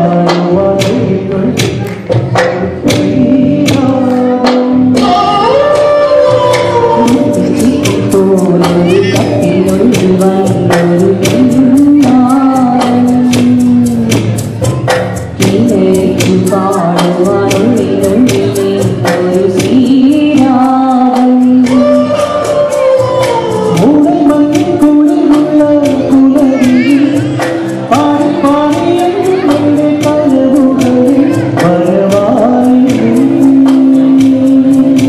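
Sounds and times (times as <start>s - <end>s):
instrumental accompaniment with beat: 0.0s - 35.0s
man singing: 0.0s - 35.0s
woman singing: 0.0s - 35.0s.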